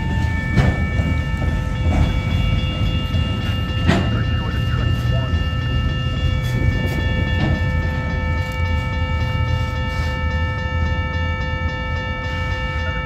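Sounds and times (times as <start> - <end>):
crossing warning bell ringing: 0.0 - 13.0
train wheels rumbling on rails: 0.0 - 13.0.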